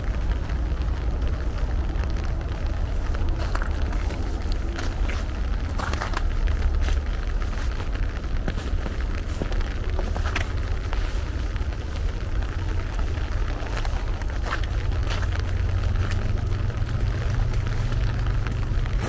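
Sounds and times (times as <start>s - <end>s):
low rumble: 0.0s - 19.0s
steady rain: 0.0s - 19.0s.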